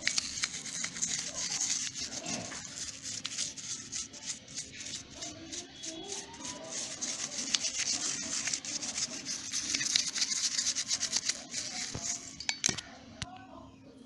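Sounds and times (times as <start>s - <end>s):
brush scraping metal: 0.0s - 12.7s.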